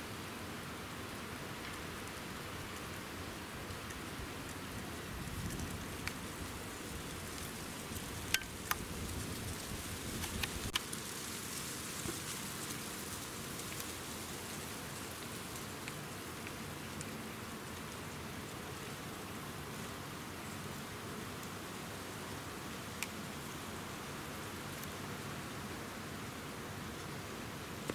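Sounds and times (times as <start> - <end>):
woodland hiss: 0.0 - 27.9.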